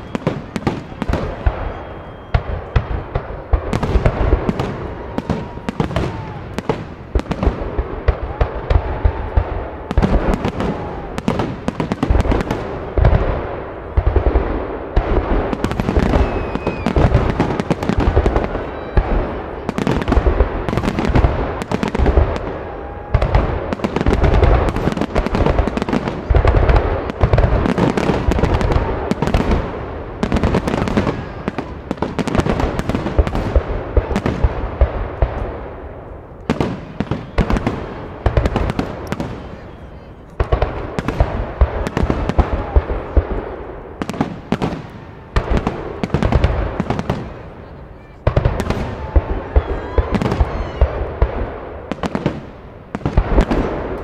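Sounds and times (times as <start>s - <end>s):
firework shells booming: 0.0s - 47.5s
firework crackling: 0.0s - 54.0s.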